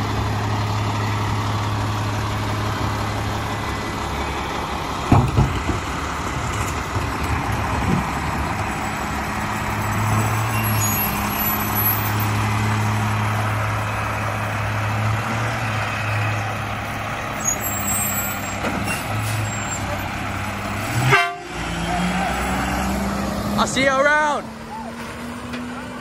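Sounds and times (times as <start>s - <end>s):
garbage truck diesel engine running: 0.0s - 26.0s.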